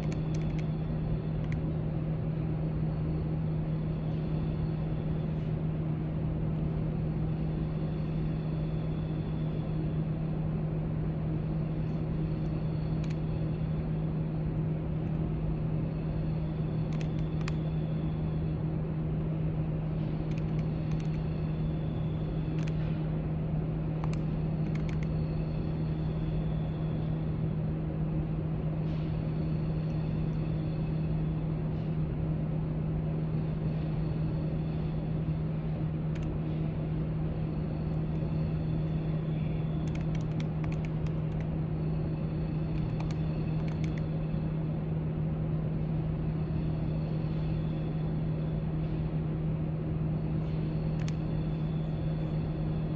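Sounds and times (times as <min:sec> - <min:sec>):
low hum: 0:00.0 - 0:52.9.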